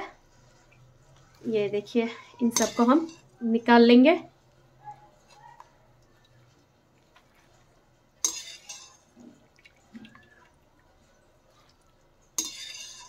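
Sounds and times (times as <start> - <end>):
water dripping: 0.0 - 3.4, 5.4 - 13.0.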